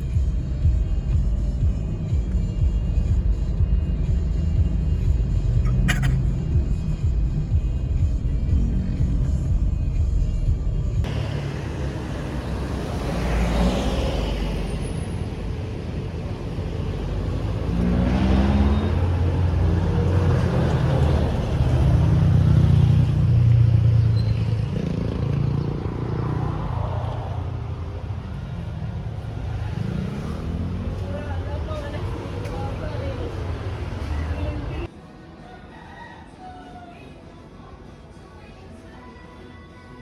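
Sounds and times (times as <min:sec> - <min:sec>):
vehicle engine rumbling: 0:00.0 - 0:34.9.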